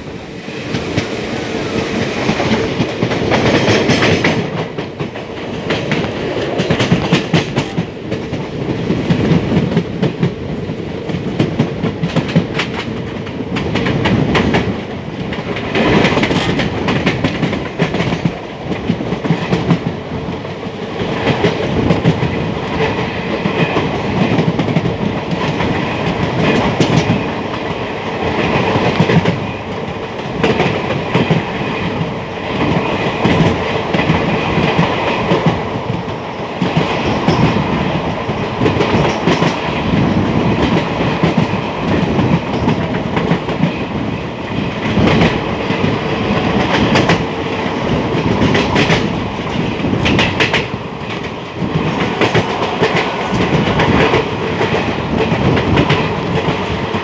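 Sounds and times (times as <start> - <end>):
train rumble on rails: 0.0 - 57.0.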